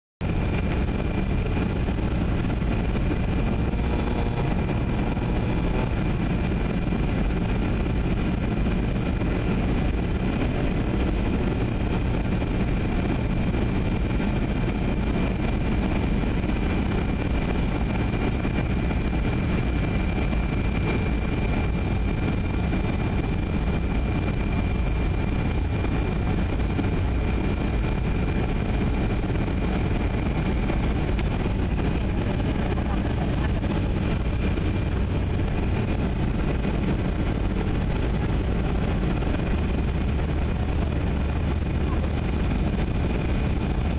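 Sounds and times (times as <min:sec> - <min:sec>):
high whine: 0:00.2 - 0:43.9
jet engine drone: 0:00.2 - 0:43.9
rushing air: 0:00.2 - 0:43.9.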